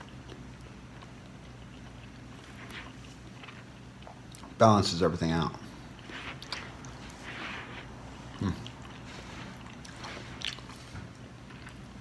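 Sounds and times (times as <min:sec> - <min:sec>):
person chewing noodles: 0:00.0 - 0:04.6, 0:05.8 - 0:12.0.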